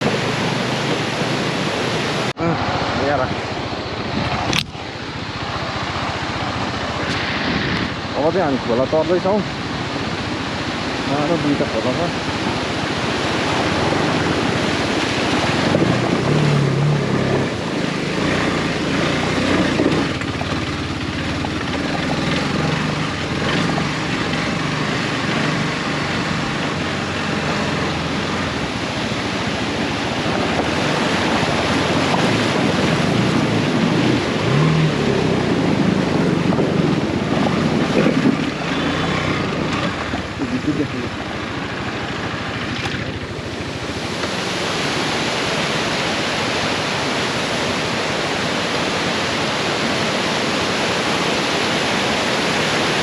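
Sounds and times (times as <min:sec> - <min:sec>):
flowing water rushing: 0:00.0 - 0:53.0
motorcycle engines running: 0:00.0 - 0:53.0
wind noise on microphone: 0:00.0 - 0:53.0.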